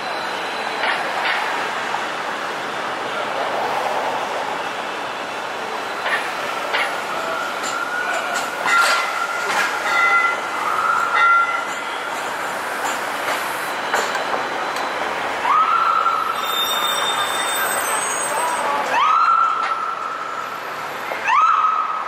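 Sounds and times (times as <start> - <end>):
streetcar rolling: 0.0 - 22.0
wheels squealing on rails: 0.0 - 22.0.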